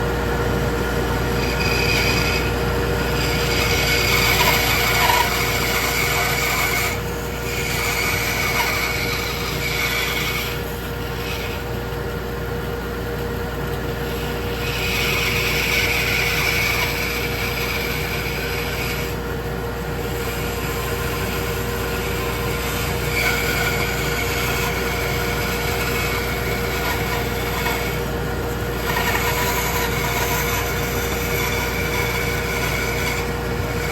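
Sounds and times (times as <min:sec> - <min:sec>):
bandsaw humming: 0:00.0 - 0:33.9
saw blade cutting wood: 0:01.0 - 0:11.8, 0:13.2 - 0:33.9.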